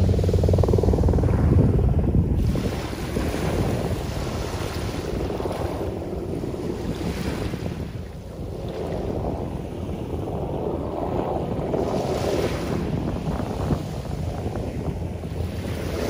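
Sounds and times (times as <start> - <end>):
low rumble: 0.0 - 16.0
wind on microphone: 0.0 - 16.0
small waves washing on beach: 2.4 - 16.0.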